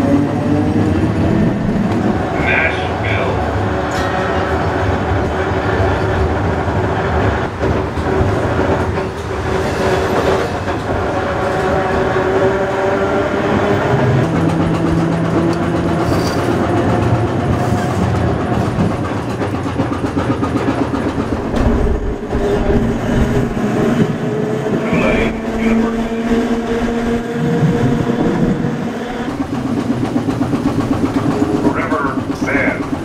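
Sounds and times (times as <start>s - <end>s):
streetcar rumbling on rails: 0.0s - 33.0s.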